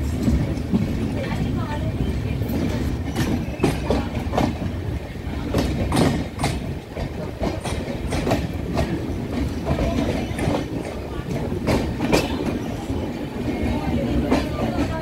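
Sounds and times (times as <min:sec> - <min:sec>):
train rumble: 0:00.0 - 0:15.0
wheels clacking over rail joints: 0:00.0 - 0:15.0.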